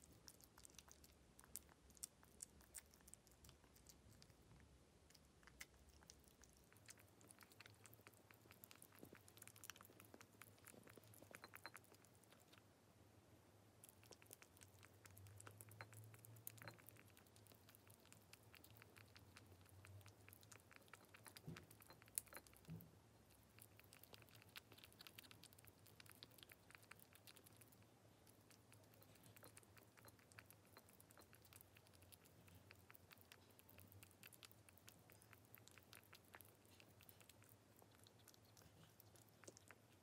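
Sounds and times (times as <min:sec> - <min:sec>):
kitten licking and chewing wet food: 0:00.0 - 0:40.0.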